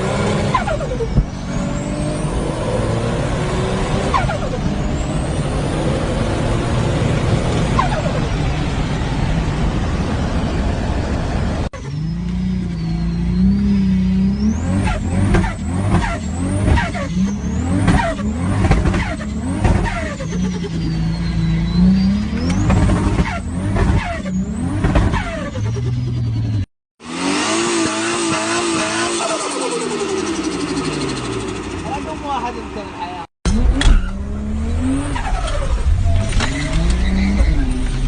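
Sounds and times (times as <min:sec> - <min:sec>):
car engine revving: 0:00.0 - 0:32.8, 0:33.5 - 0:38.0.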